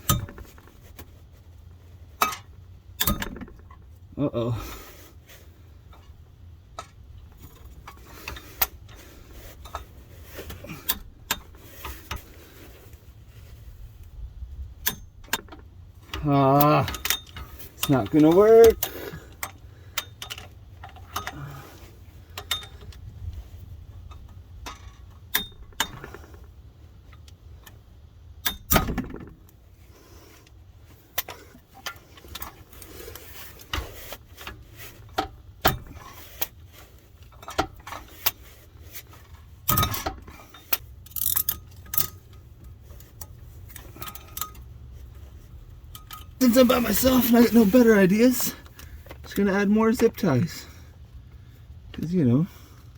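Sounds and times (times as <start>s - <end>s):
tools and metal parts clinking: 0.0s - 1.1s, 2.1s - 3.9s, 5.8s - 12.3s, 14.8s - 23.1s, 24.0s - 29.5s, 30.4s - 50.7s.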